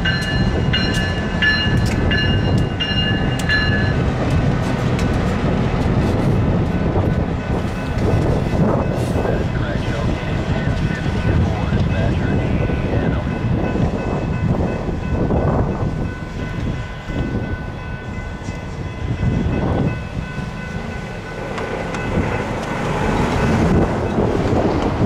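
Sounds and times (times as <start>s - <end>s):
railroad crossing bell ringing: 0.0s - 5.6s, 6.2s - 24.7s
wind buffeting microphone: 0.0s - 25.0s.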